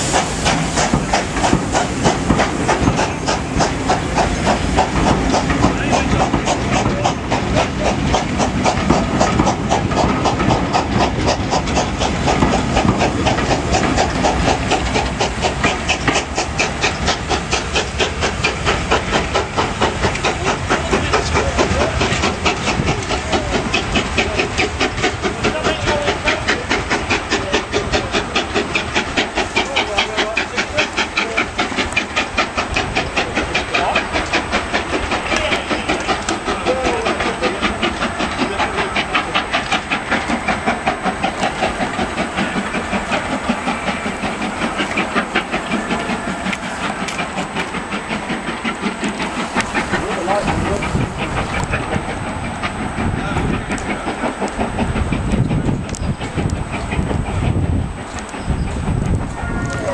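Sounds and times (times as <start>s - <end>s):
hiss of steam: 0.0s - 59.9s
steam train pulsing: 0.0s - 59.9s.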